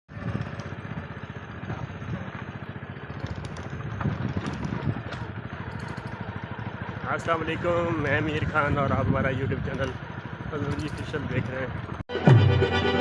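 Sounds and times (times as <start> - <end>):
small engine puttering: 0.1 - 12.0.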